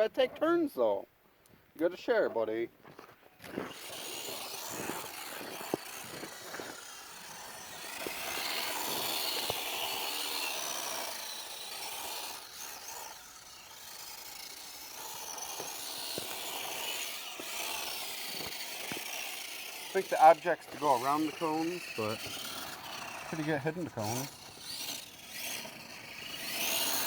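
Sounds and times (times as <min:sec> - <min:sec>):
tyres rasping and scuffing: 0:02.8 - 0:13.1, 0:14.8 - 0:27.0
electric motor and gears whining: 0:03.0 - 0:27.0.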